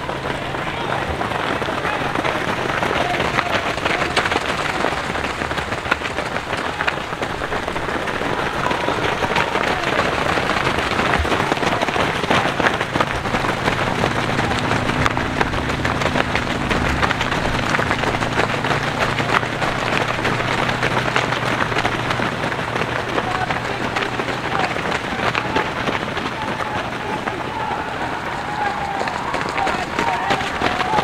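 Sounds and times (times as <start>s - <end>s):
low steady hum: 0.0s - 31.0s
runners' footsteps on dirt: 0.0s - 31.0s.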